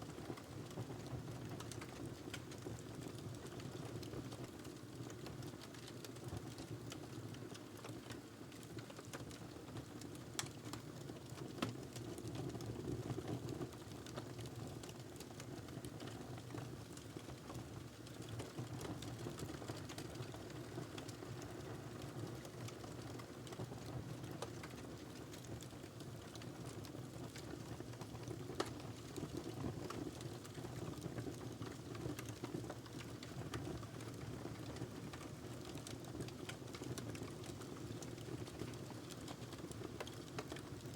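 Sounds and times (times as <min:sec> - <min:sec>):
wood fire crackling: 0:01.3 - 0:12.0, 0:13.7 - 0:40.9.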